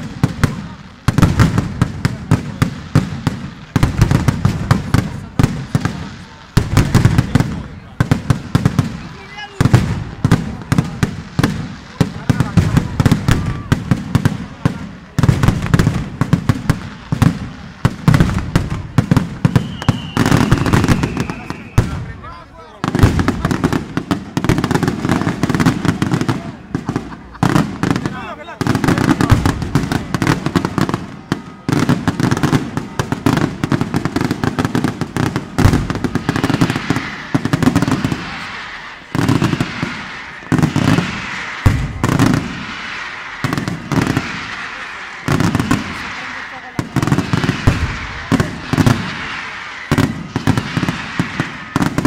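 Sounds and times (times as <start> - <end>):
firecrackers banging: 0.0 - 52.0.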